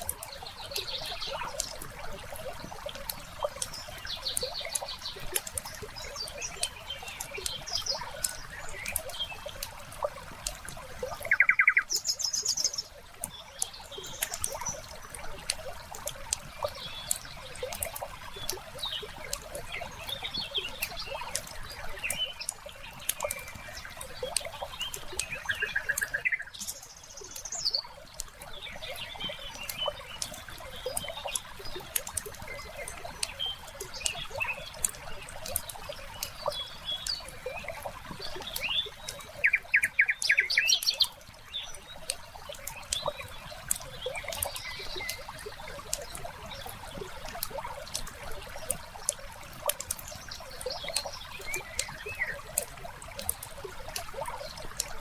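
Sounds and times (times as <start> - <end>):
birds chirping and trilling: 0.0 - 10.2, 11.0 - 48.7, 49.5 - 54.9.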